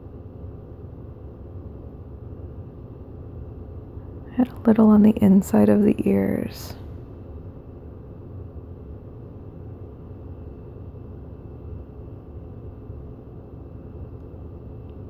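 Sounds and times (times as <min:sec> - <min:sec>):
faint high hum: 0:00.0 - 0:15.0
low background rumble: 0:00.0 - 0:15.0.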